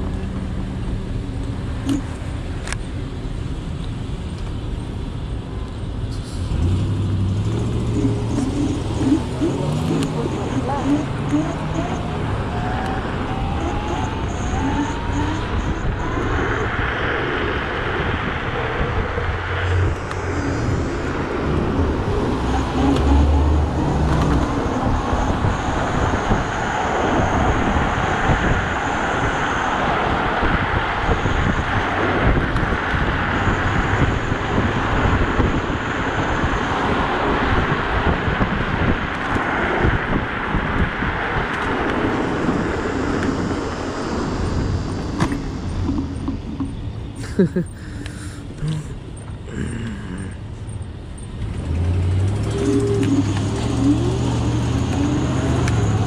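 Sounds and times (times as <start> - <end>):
street traffic: 0.0 - 56.0
wind rushing over microphone: 0.0 - 56.0.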